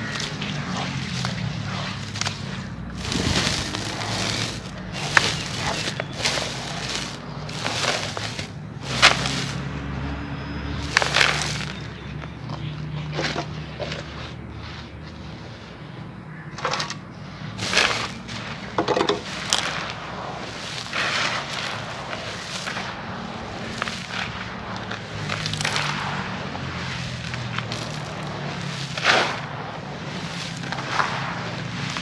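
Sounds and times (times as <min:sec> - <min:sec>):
hands raking through gritty rubble: 0:00.0 - 0:09.8, 0:10.8 - 0:12.0, 0:17.4 - 0:32.0.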